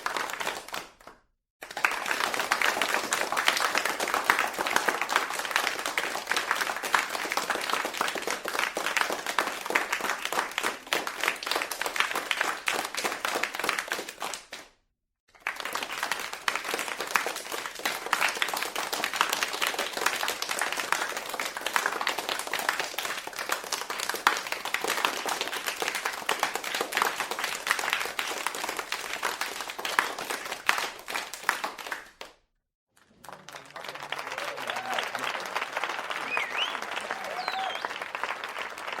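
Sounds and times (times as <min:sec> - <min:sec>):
crowd applauding: 0:00.0 - 0:14.5, 0:15.4 - 0:32.3, 0:33.0 - 0:39.0.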